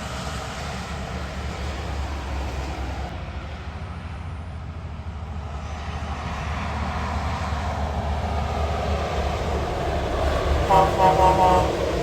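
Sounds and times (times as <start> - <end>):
heavy vehicle rumble: 0.0 - 12.0.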